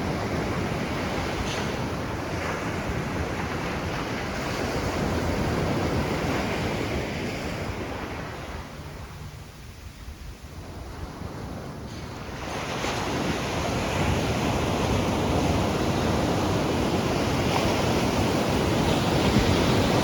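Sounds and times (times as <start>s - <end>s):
ocean waves breaking: 0.0s - 20.0s
wind buffeting microphone: 0.0s - 20.0s.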